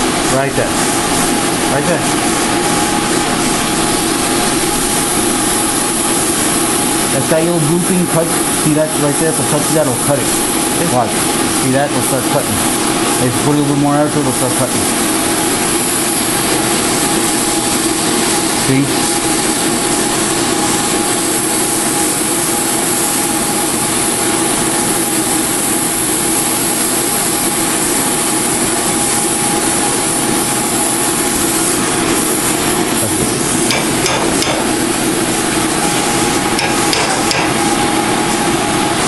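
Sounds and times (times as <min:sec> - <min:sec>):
cutting torch hissing: 0:00.0 - 0:38.5
steady hum: 0:00.0 - 0:39.0.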